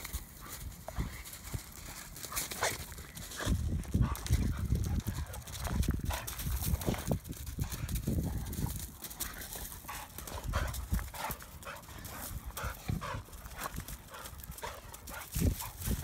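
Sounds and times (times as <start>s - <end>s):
paws scuffling on gravel: 0.0s - 16.0s
dogs play growling: 0.3s - 16.0s.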